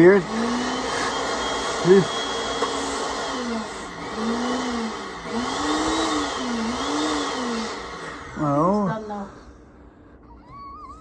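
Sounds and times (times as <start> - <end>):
blender running: 0.0 - 9.3.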